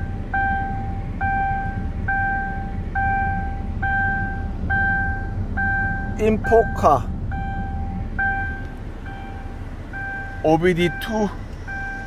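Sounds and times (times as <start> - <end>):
car warning chime beeping: 0.0 - 12.0
low engine rumble: 0.0 - 12.0.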